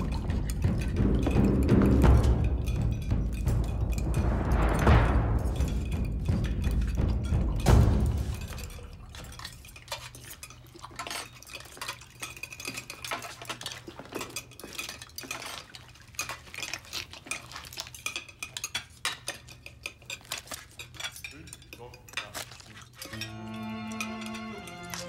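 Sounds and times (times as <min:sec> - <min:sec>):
cutlery scraping and clinking on plates: 0:00.0 - 0:25.0.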